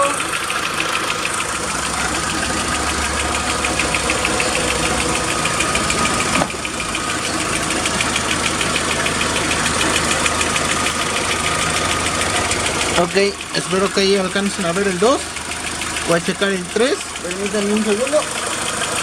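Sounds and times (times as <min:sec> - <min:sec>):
car engine idling: 0:00.0 - 0:19.0
fast engine ticking: 0:00.0 - 0:19.0.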